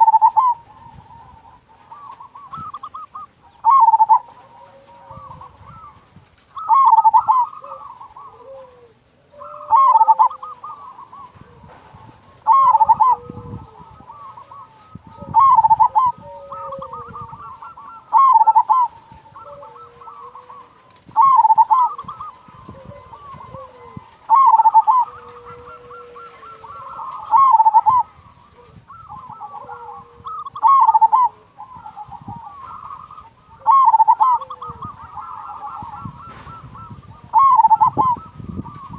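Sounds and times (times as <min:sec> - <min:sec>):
dove trilled cooing: 0:00.0 - 0:38.9
soft low dove coos: 0:00.0 - 0:38.9.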